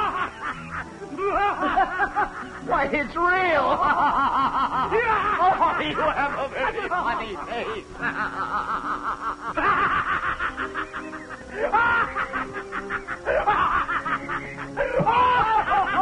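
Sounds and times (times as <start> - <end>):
men laughing: 0.0 - 16.0
music: 0.0 - 16.0.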